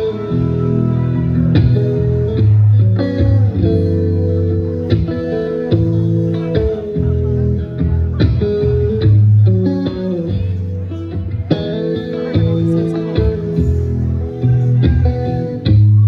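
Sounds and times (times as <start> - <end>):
bass: 0.0 - 16.0
drums: 0.0 - 16.0
electric guitar: 0.0 - 16.0.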